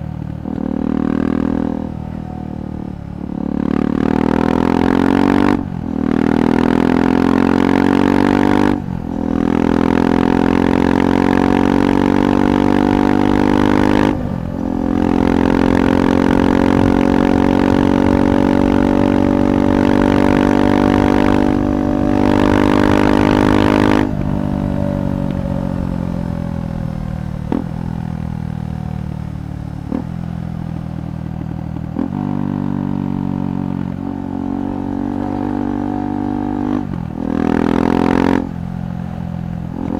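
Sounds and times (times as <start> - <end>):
engine throttle blips: 0.0 - 39.9
motorcycle engine accelerating: 0.0 - 39.9.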